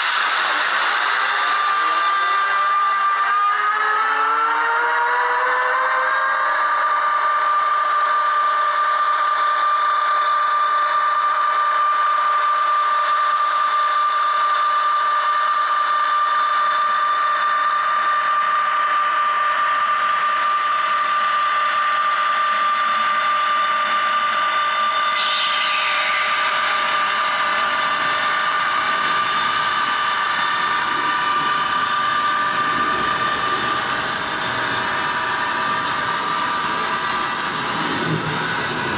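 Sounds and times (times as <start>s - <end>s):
two-tone inverter whine: 0.0s - 38.9s.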